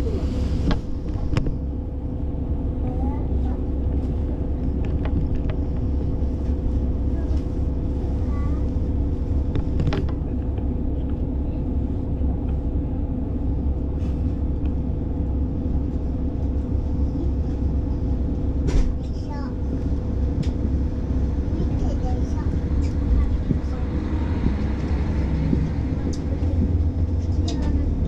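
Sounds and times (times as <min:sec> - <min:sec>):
railcar engine and wheels rumbling: 0:00.0 - 0:28.0.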